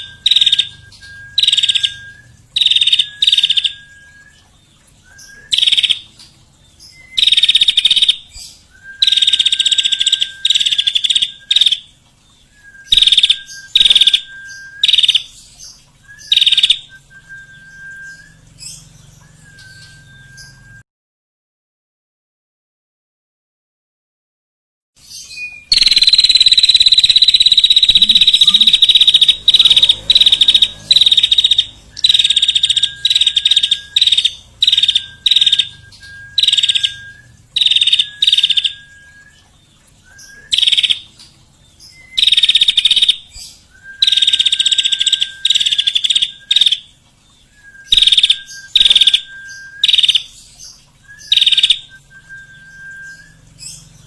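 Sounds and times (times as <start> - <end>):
songbird buzzy trilling: 0.0 - 20.8, 25.1 - 41.2, 41.8 - 54.0.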